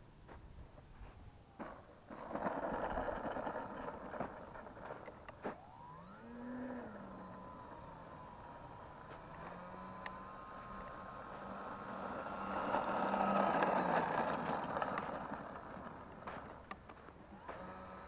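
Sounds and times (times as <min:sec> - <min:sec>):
model plane motors whining: 0:02.0 - 0:18.0.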